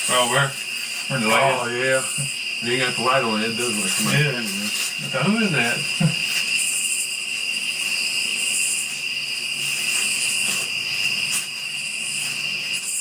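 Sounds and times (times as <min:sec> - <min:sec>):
higher raspy insect call: 0:00.0 - 0:13.0
insect chorus trilling: 0:00.0 - 0:13.0.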